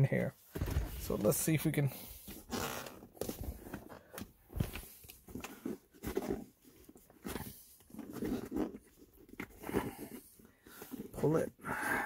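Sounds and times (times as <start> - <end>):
leather and plastic creaking: 0.5 - 11.6.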